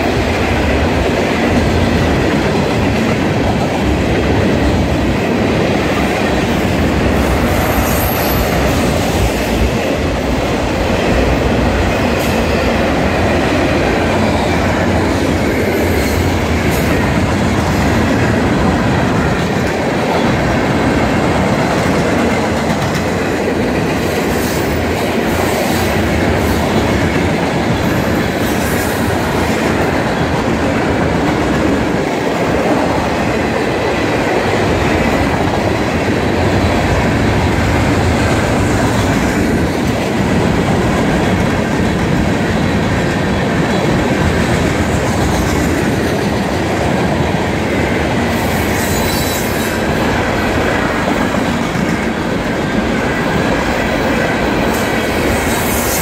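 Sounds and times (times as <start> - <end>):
train wheels rumbling over rails: 0.0 - 56.0.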